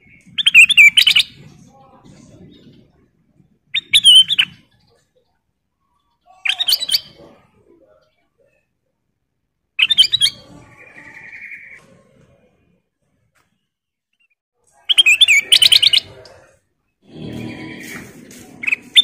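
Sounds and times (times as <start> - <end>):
bird chirping: 0.0 - 8.7, 9.8 - 12.0, 13.5 - 16.5, 17.1 - 19.0.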